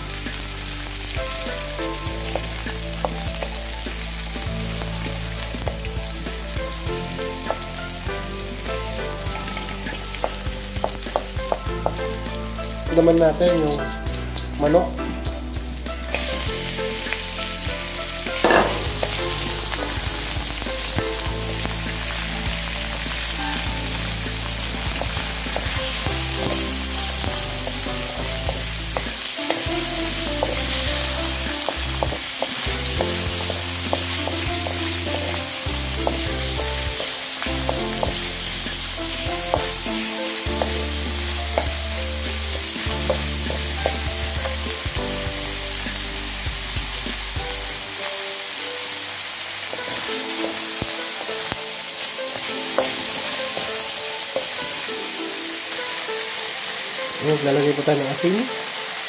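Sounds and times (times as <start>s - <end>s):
chicken sizzling in hot oil: 0.0s - 59.0s
wooden spatula scraping wok: 0.2s - 48.1s, 49.7s - 58.8s.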